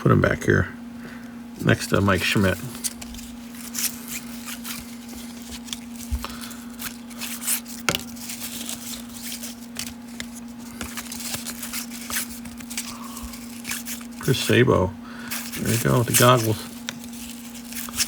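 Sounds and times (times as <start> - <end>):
steady low hum: 0.0 - 18.0
cards clicking and snapping: 2.2 - 14.6, 15.2 - 18.0.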